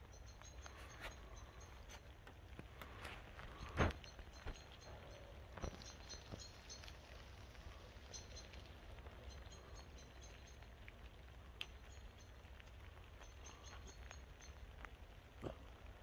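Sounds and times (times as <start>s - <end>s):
small ticks: 0.0s - 16.0s.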